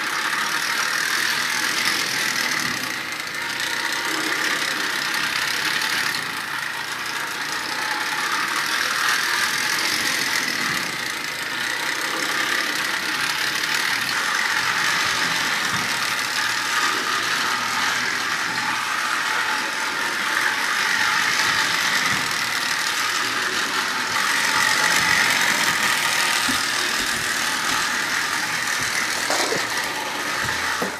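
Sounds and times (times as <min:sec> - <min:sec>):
toy train motor whirring: 0:00.0 - 0:30.9.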